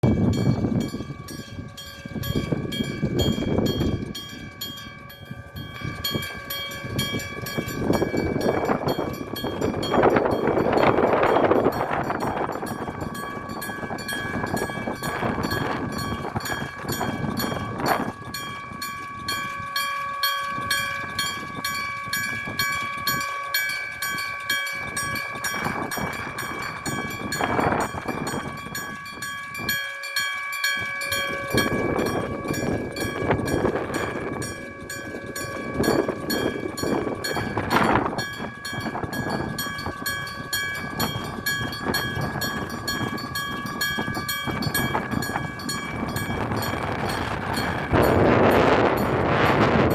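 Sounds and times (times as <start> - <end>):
electric crossing bell ringing: 0.0 - 49.9
train wheels clattering on rails: 0.0 - 49.9.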